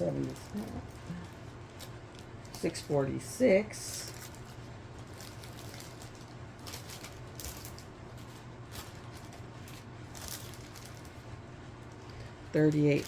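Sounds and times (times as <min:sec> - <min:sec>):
plastic bags rustling: 0:00.0 - 0:02.9, 0:03.7 - 0:13.0
steady low hum: 0:00.0 - 0:13.0.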